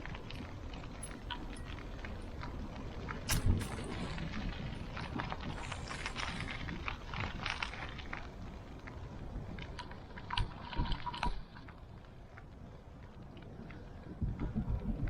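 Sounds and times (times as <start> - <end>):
bike clicks and rattles: 0.0 - 13.6.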